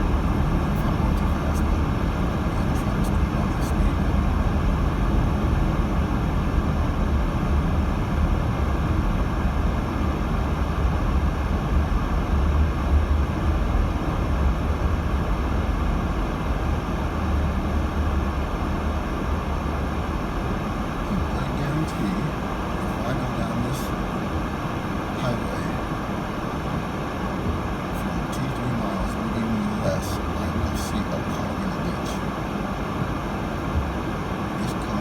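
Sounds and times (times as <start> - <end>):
in-cabin road rumble: 0.0 - 35.0.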